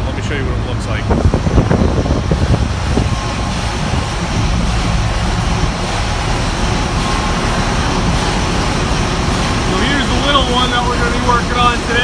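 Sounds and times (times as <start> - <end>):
ship engine rumbling: 0.0 - 12.0.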